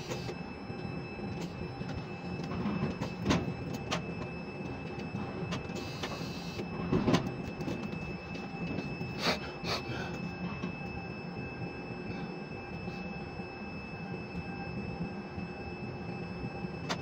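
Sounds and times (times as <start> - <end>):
crane mechanical hum: 0.0 - 17.0.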